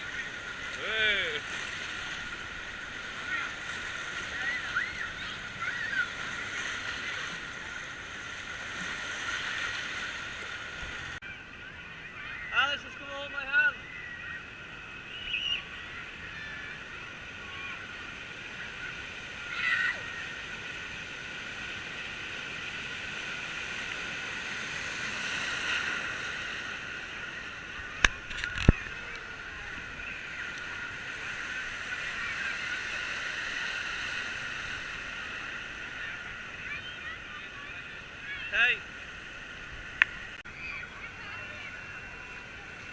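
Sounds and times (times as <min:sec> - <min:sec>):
distant voices: 0:00.0 - 0:42.9.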